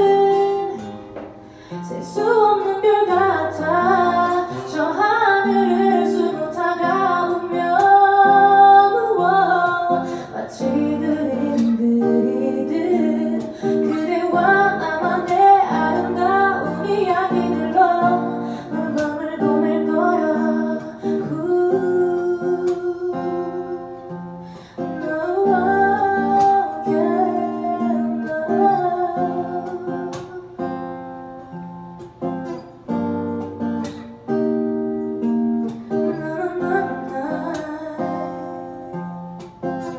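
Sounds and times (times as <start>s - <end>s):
woman singing slow pop song: 0.0s - 31.9s, 32.9s - 39.9s
plucked acoustic guitar: 0.0s - 39.9s.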